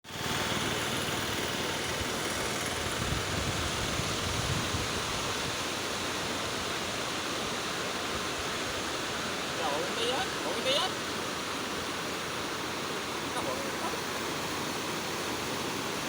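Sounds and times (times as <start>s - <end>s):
flooded stream rushing: 0.0s - 16.0s.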